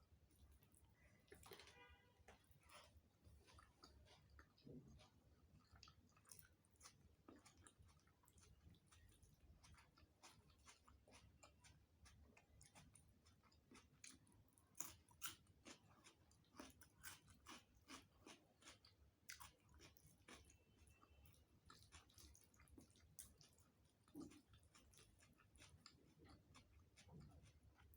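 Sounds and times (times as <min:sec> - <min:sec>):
chewing food: 0:00.1 - 0:27.9.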